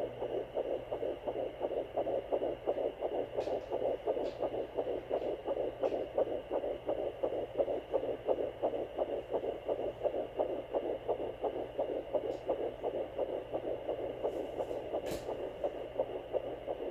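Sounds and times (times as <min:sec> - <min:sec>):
fast whooshing heartbeat pulse: 0:00.0 - 0:16.9.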